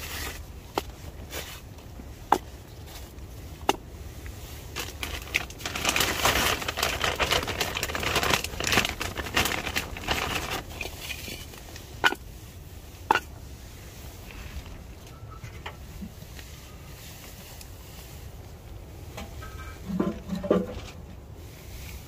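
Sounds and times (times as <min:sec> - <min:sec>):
rustling and crinkling: 0:00.0 - 0:22.0.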